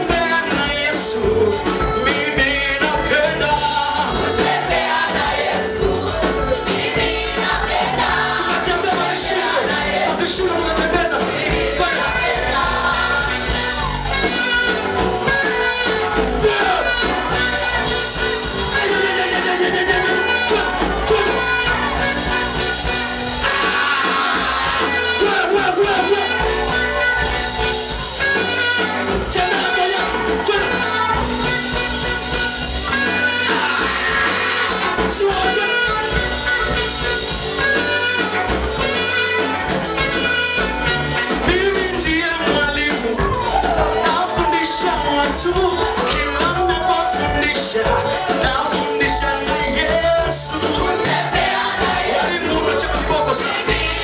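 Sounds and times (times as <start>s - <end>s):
band with bass line: 0.0s - 54.0s
group of singers: 0.0s - 54.0s.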